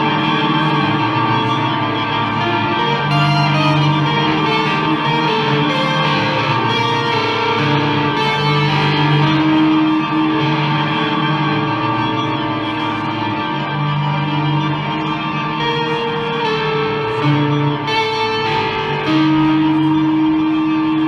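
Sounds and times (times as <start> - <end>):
guitar held notes: 0.0 - 21.0
steady layered drone: 0.0 - 21.0.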